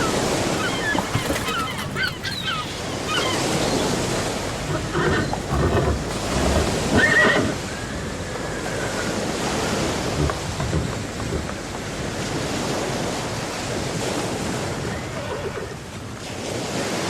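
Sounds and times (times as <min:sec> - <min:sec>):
surf rushing: 0:00.0 - 0:17.0
wind buffeting microphone: 0:00.0 - 0:17.0.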